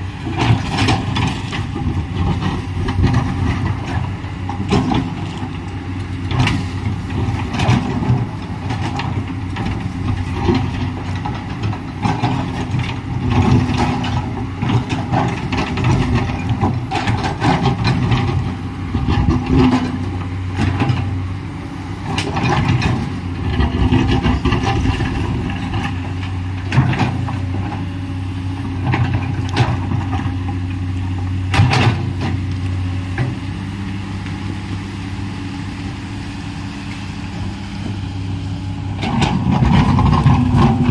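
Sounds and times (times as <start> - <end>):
excavator diesel engine: 0.0 - 40.9.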